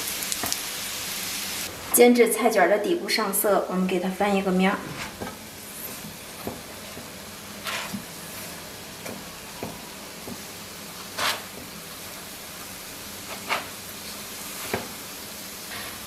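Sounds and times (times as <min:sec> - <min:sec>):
food sizzling in oil: 0:00.0 - 0:02.1, 0:04.1 - 0:16.0.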